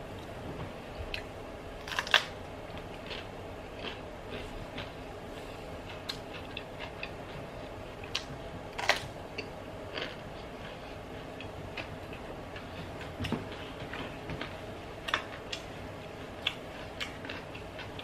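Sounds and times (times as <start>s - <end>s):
low background hum: 0.0s - 18.0s
chewing raw vegetables: 1.1s - 5.1s, 5.8s - 18.0s.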